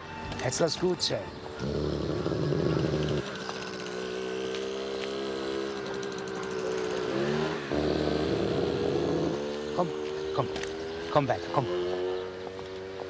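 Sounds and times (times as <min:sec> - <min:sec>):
small engine buzzing drone: 0:01.3 - 0:13.0.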